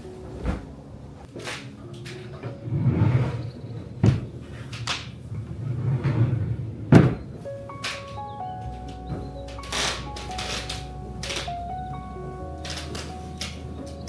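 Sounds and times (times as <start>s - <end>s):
gentle background music: 0.0s - 14.0s.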